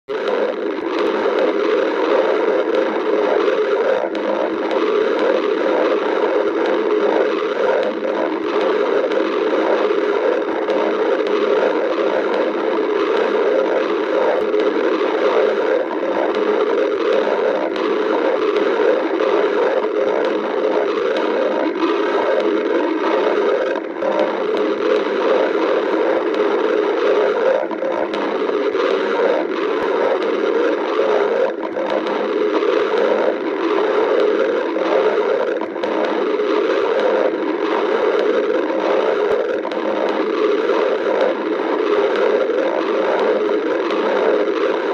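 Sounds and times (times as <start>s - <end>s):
stomach growling: 0.0s - 44.9s.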